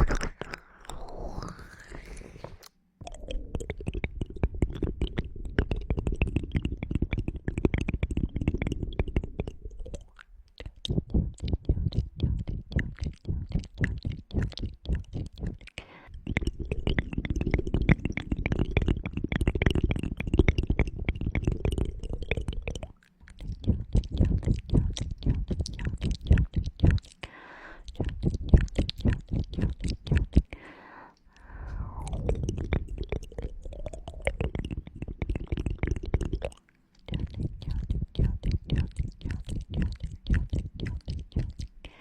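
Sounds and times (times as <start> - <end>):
crackling clicks and rubbing at mic: 2.3 - 27.2, 27.9 - 30.5, 32.0 - 41.9.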